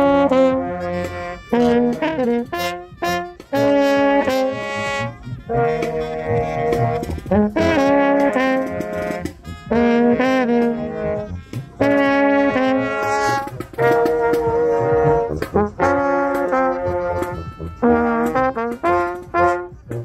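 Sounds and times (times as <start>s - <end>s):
brass section playing chords: 0.0s - 20.0s.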